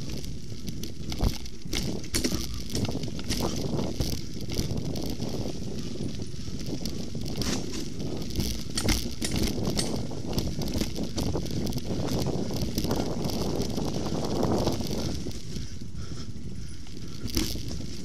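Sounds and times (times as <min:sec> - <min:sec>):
bike clicks and rattles: 0:00.0 - 0:18.0
bike tyres rumbling: 0:00.0 - 0:18.0.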